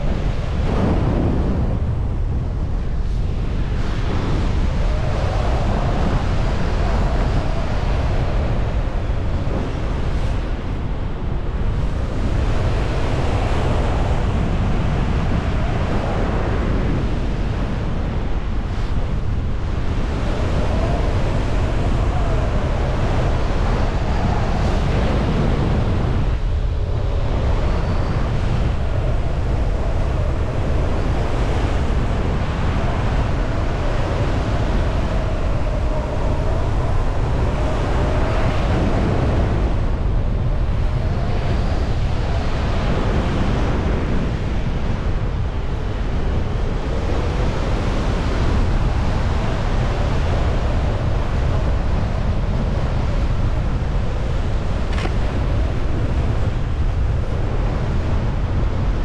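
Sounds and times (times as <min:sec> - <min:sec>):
muffled wind rumble: 0:00.0 - 0:59.0.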